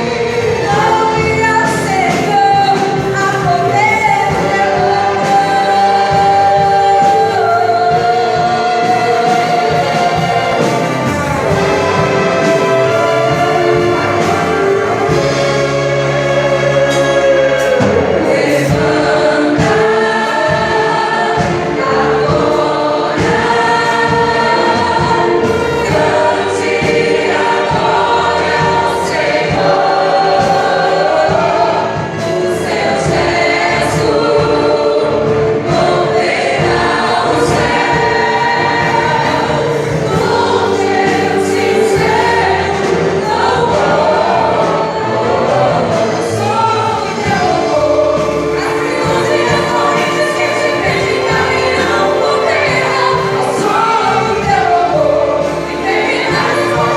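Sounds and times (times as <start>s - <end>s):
choir singing: 0.0s - 56.9s
orchestra playing a hymn: 0.0s - 56.9s.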